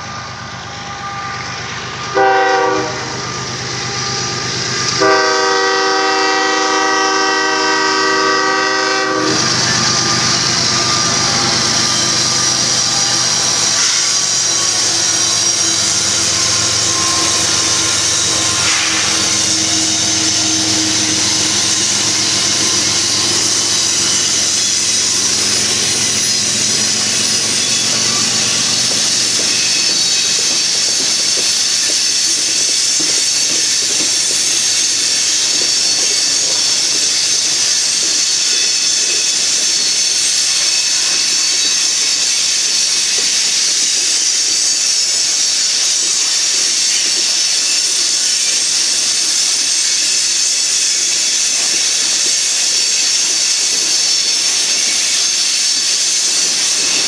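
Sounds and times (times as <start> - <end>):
freight train wheels hissing on rails: 0.0 - 57.0.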